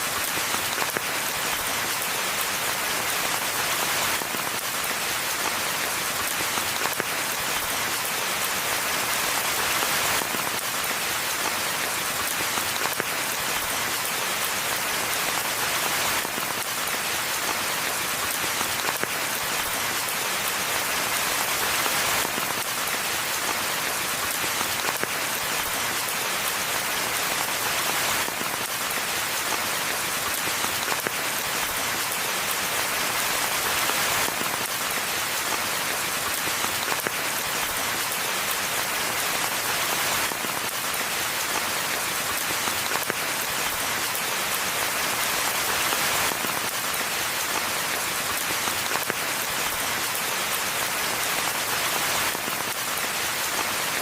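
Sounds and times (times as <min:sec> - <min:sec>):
rain falling in a forest: 0:00.0 - 0:54.0.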